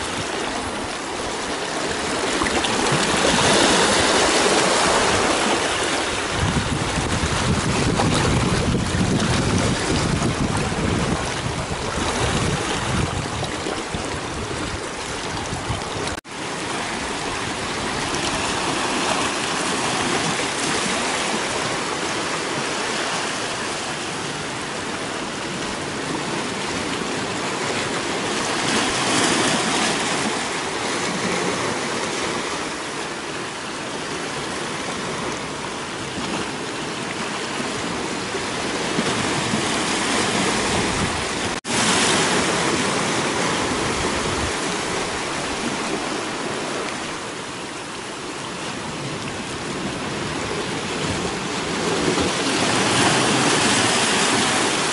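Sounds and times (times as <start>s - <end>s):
waves washing over rocks: 0.0s - 54.9s.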